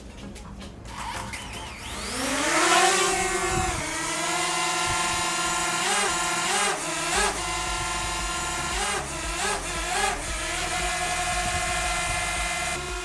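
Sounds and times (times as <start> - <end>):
drone propellers whining: 0.9 - 13.0.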